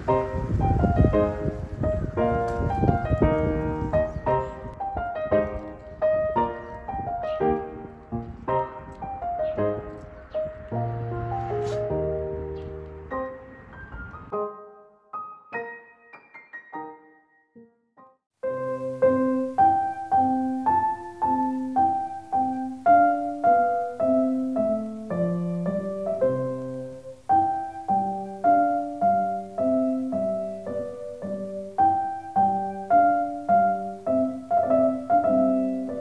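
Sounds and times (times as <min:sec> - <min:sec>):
gentle piano melody: 0:00.0 - 0:36.0.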